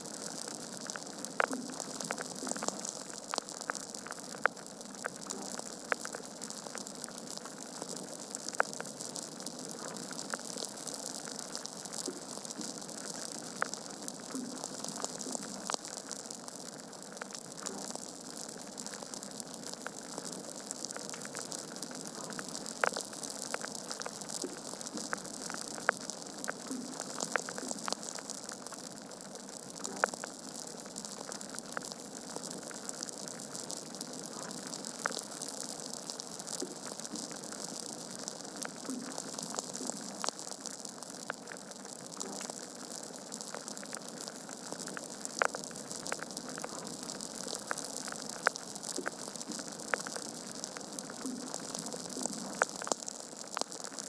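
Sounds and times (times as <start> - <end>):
logs crackling and popping: 0.0 - 54.0.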